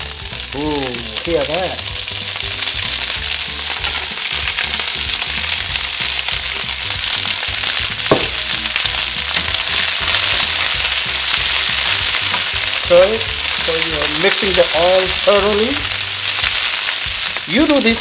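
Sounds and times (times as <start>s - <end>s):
cabbage sizzling in hot oil: 0.0s - 18.0s.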